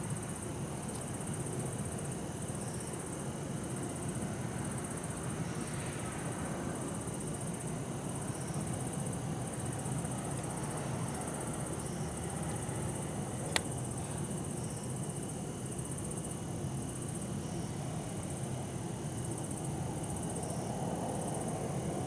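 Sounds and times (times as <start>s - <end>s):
crickets trilling: 0.0s - 22.0s
distant city traffic hum: 0.0s - 22.0s.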